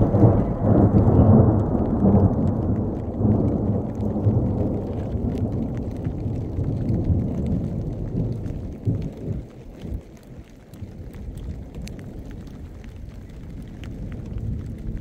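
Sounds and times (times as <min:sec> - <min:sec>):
faint ticks of rain: 0:00.0 - 0:15.0
thunder rumbling: 0:00.0 - 0:15.0.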